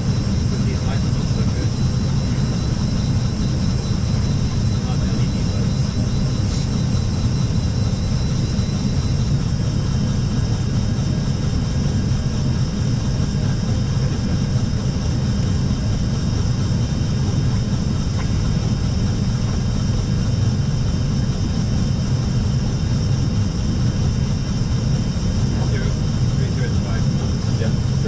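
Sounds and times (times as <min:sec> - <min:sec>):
low rumble of airflow and engines: 0:00.0 - 0:28.0.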